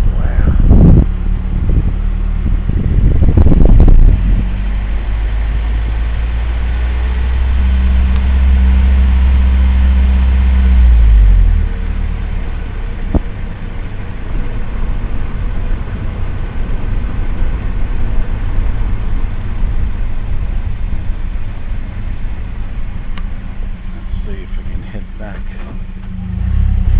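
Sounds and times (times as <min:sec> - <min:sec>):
car engine running: 0:00.0 - 0:26.9.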